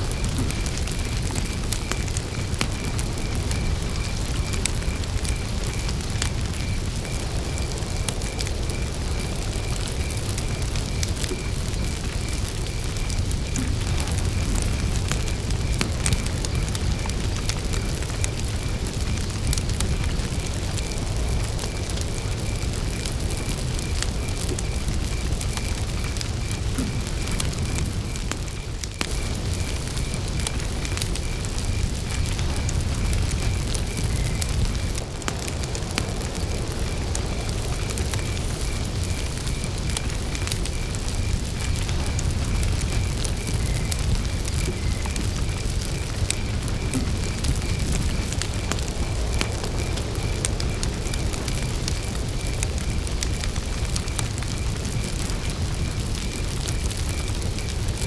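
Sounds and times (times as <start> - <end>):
campfire crackling and popping: 0.0 - 58.0
cricket chirping: 0.0 - 58.0.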